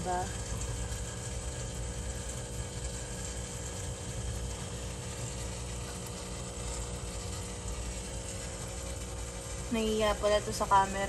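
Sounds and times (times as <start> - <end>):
aquarium pump humming: 0.0 - 11.0
water noise: 0.0 - 11.0.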